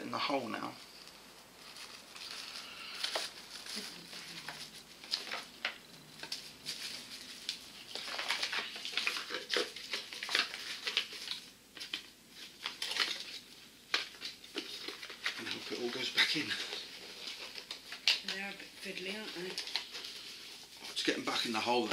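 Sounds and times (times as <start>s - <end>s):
packaging crinkling: 0.8s - 21.9s.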